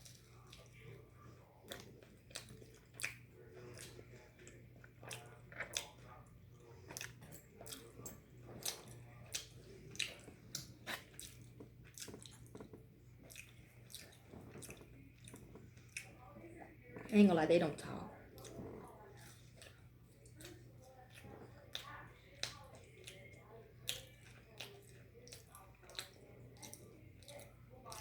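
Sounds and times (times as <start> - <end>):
person chewing crunchy food: 0.0 - 17.1, 18.2 - 28.0.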